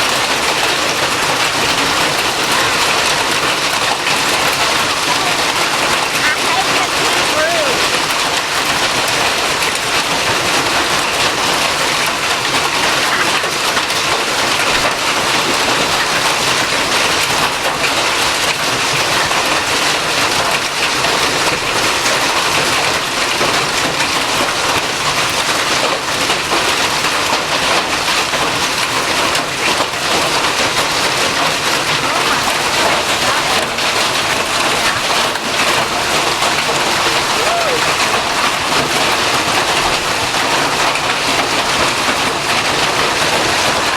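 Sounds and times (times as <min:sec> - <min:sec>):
hail pelting down: 0:00.0 - 0:43.9.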